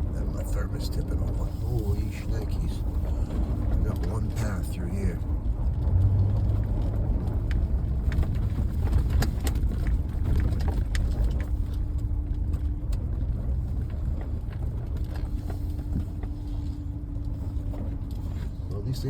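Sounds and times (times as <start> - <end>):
truck engine and tyres rumbling: 0.0 - 19.0.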